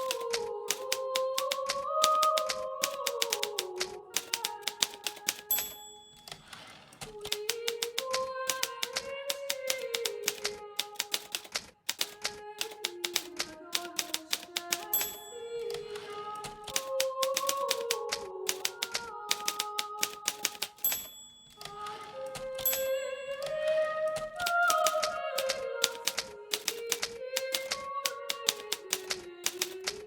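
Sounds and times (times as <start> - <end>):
typewriter bell ring: 0.0 - 29.9
typewriter carriage return: 0.0 - 30.0
typewriter key strikes: 0.0 - 30.0.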